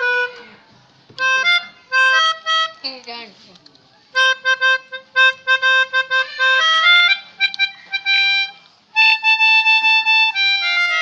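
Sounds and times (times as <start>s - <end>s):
melodica playing a tune: 0.0s - 3.0s, 4.1s - 11.0s.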